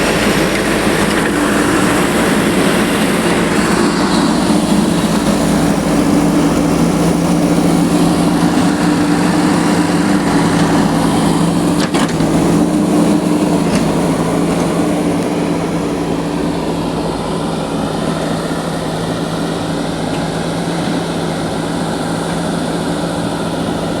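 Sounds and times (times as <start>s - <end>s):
construction machinery engine running: 0.0s - 24.0s.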